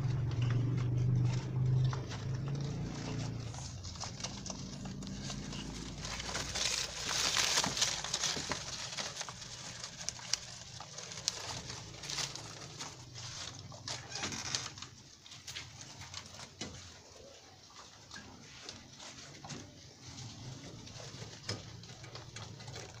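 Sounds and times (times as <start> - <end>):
rabbits munching leafy greens: 0.0 - 23.0.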